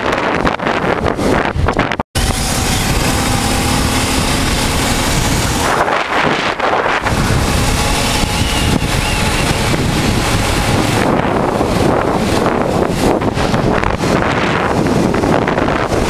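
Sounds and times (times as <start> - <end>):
wind buffeting microphone: 0.0 - 16.0
motorcycle engine running: 2.2 - 16.0.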